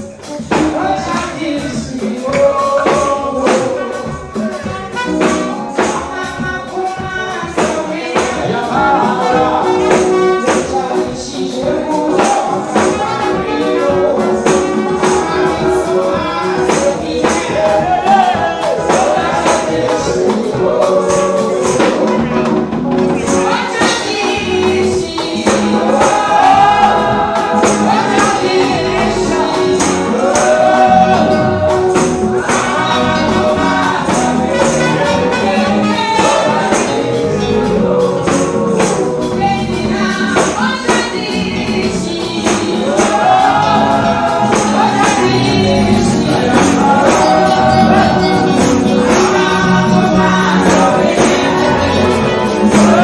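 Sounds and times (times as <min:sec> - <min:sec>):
amplified live church music: 0:00.0 - 0:53.0
steady percussion: 0:00.0 - 0:53.0.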